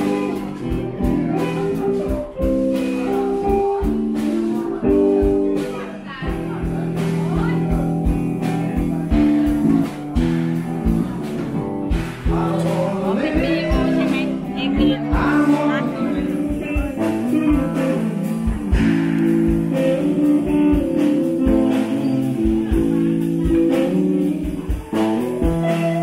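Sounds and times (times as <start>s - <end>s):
song with guitar and singing: 0.0s - 26.0s
steady beat: 0.0s - 26.0s.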